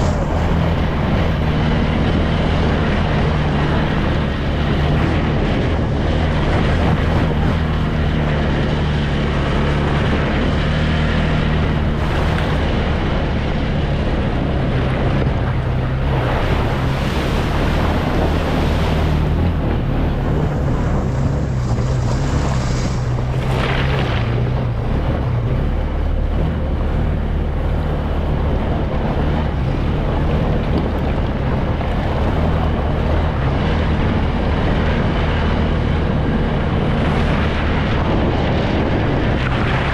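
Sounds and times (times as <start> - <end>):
atv engine running: 0.0 - 39.9
wind on microphone: 0.0 - 39.9.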